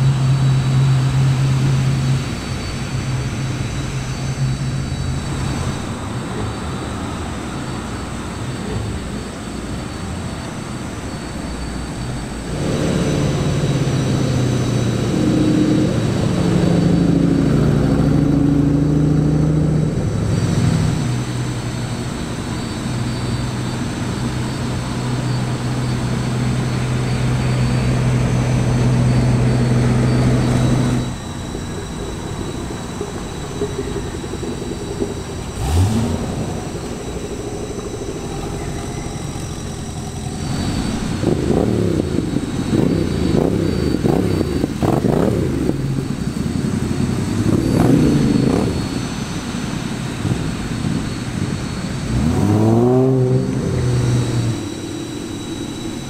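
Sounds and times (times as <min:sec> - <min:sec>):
car engines running: 0:00.0 - 0:56.0
crackly exhaust rumble: 0:00.0 - 0:56.0.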